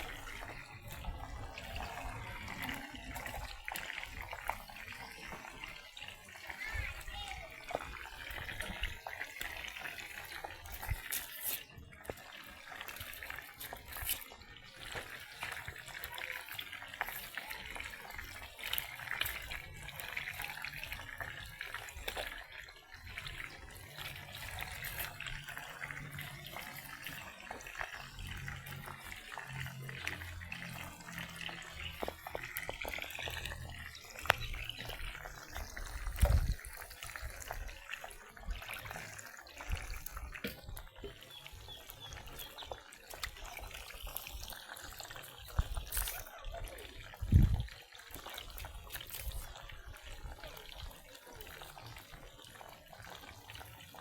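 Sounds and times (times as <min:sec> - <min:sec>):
water running and splashing: 0:00.0 - 0:54.0.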